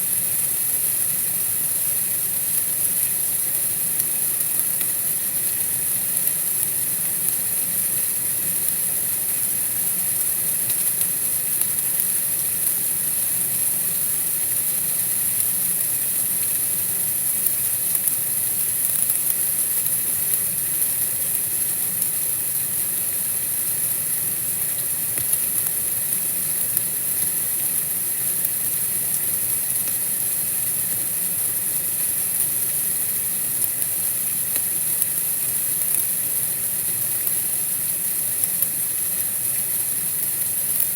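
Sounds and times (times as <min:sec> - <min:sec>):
white-noise hiss: 0:00.0 - 0:40.9.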